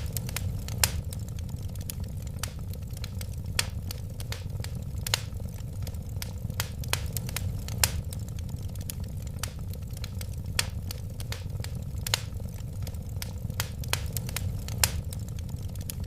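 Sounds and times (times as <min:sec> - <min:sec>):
low rumble of flames: 0:00.0 - 0:16.0
wood fire crackling: 0:00.0 - 0:16.0.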